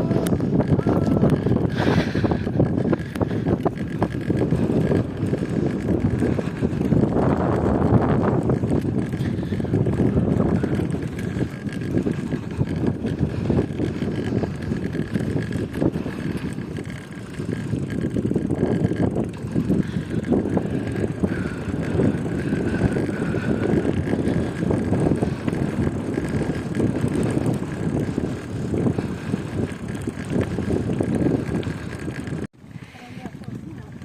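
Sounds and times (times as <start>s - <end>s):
bicycle tyre noise: 0.0s - 34.0s
wind buffeting microphone: 0.0s - 34.0s.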